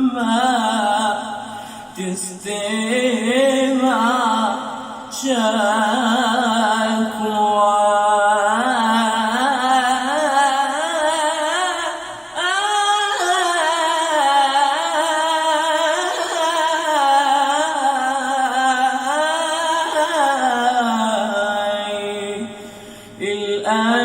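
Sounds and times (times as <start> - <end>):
person singing with vibrato: 0.0 - 24.0.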